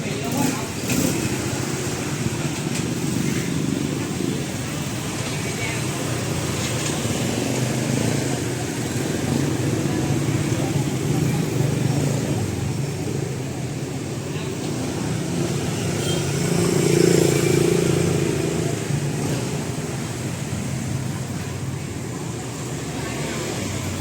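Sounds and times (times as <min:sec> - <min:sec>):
motorbike engines: 0:00.0 - 0:24.0
motorbike passing: 0:00.0 - 0:24.0.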